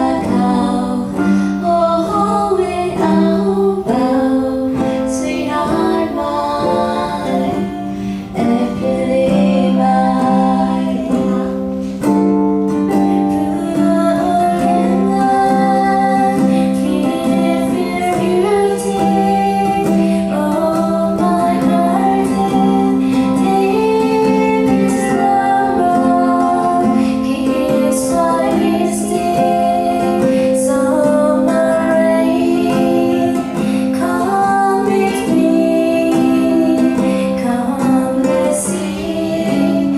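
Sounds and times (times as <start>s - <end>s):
plucked string accompaniment: 0.0s - 39.9s
woman singing: 0.0s - 39.9s.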